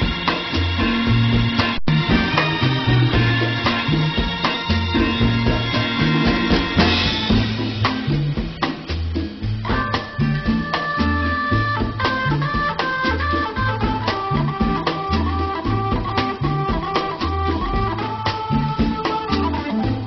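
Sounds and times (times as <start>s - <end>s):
music with drums and bass line: 0.0s - 20.0s.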